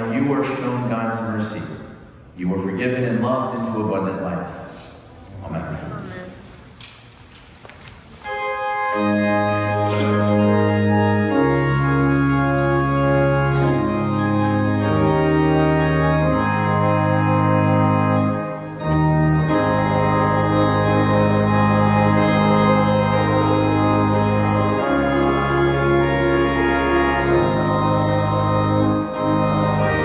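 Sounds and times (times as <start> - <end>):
church organ chords: 0.0 - 4.3, 8.2 - 30.0.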